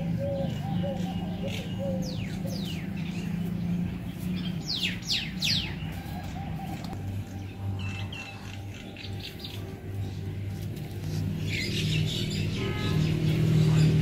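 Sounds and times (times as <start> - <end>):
birds whistling calls: 0.0 - 14.0
steady low hum: 0.0 - 14.0.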